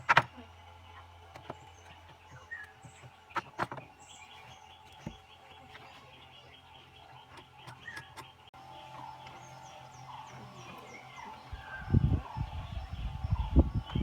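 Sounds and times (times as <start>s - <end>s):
steady low hum: 0.0s - 14.0s
faint bird chirps: 0.3s - 14.0s.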